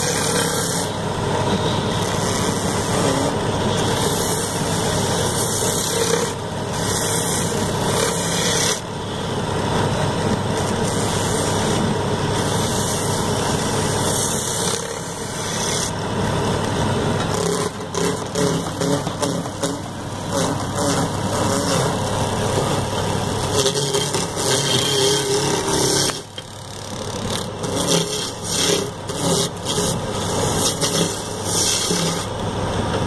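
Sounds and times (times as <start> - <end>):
turning tool rasping wood: 0.0 - 9.0, 10.5 - 16.0, 17.2 - 32.4
lathe motor running: 0.0 - 33.0.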